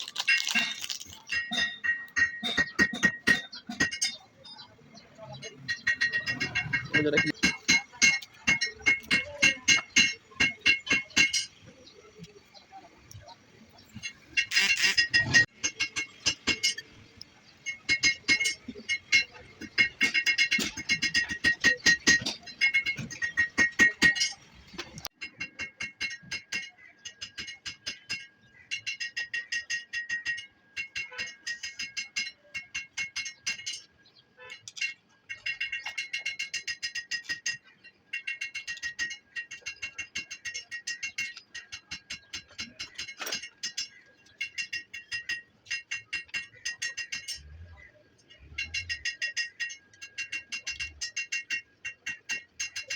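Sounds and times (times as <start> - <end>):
clinking bell-like music: 0.0 - 13.2, 17.6 - 47.6, 48.3 - 52.9.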